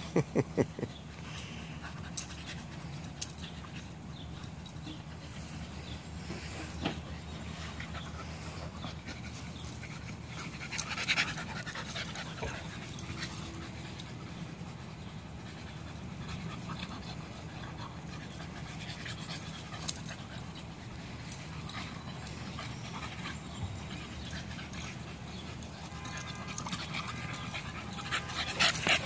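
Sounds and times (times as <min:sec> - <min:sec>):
dogs panting: 0:00.0 - 0:29.0
dogs scuffling and mouthing: 0:00.3 - 0:29.0.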